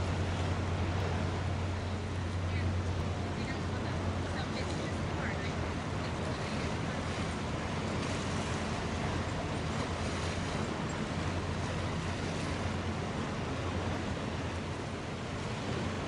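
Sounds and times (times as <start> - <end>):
low engine drone: 0.0 - 16.0
wind and water rushing: 0.0 - 16.0.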